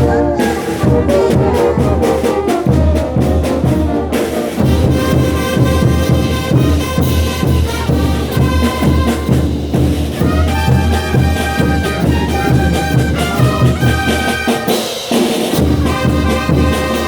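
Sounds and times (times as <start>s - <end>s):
brass band playing: 0.0s - 17.0s
drum beat: 0.0s - 17.0s.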